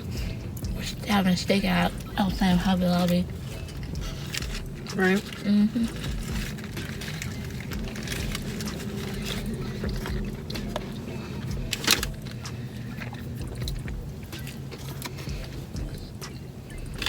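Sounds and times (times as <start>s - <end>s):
car cabin hum: 0.0s - 17.0s
food packaging rustling: 2.0s - 17.0s.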